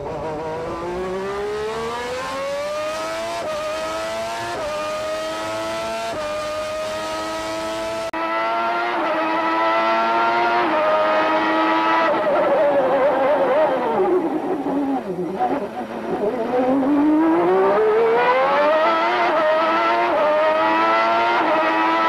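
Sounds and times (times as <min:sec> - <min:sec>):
race car engine at full throttle: 0:00.0 - 0:22.0
race car engine at high revs: 0:00.0 - 0:22.0.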